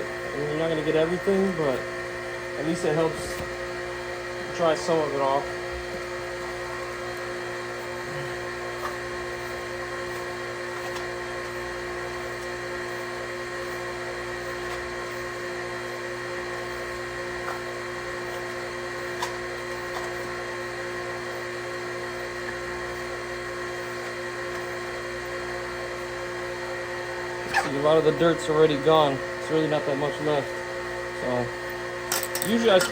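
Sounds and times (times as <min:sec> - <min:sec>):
small electric motor whining: 0:00.0 - 0:32.9.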